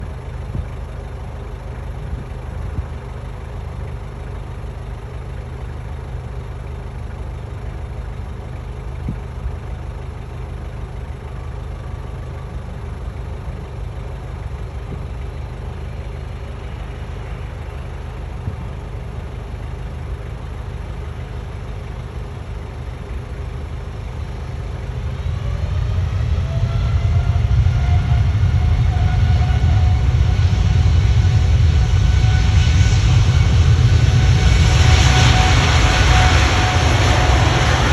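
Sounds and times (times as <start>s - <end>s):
jet engines rumbling with whine: 0.0s - 37.9s.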